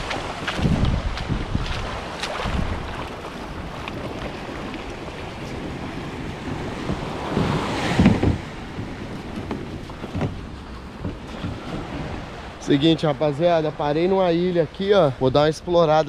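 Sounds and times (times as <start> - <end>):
small waves washing on beach: 0.0 - 16.0
wind buffeting microphone: 0.0 - 16.0.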